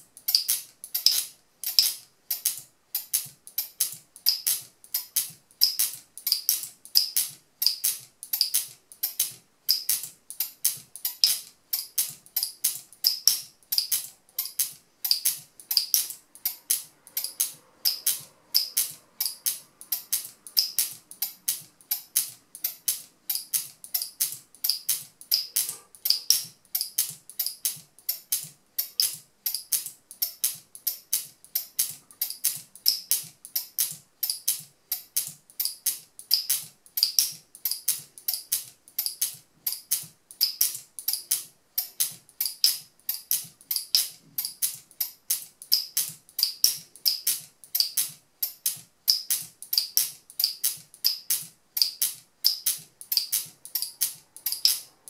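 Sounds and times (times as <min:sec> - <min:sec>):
locking mechanism clicking: 0:00.2 - 0:55.0.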